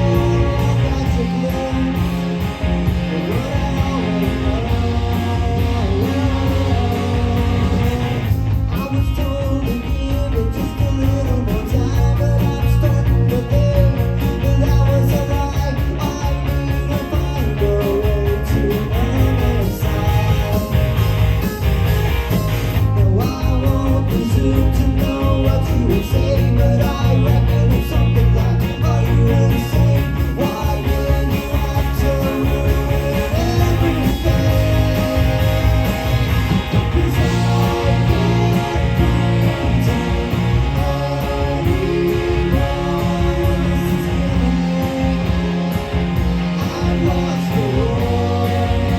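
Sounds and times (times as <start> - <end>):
bass: 0.0 - 48.9
drums: 0.0 - 48.9
electric guitars: 0.0 - 48.9.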